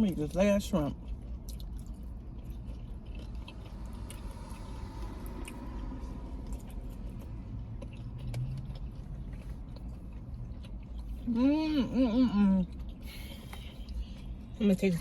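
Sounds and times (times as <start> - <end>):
chewing fried shrimp: 0.0 - 15.0
low room hum: 0.0 - 15.0.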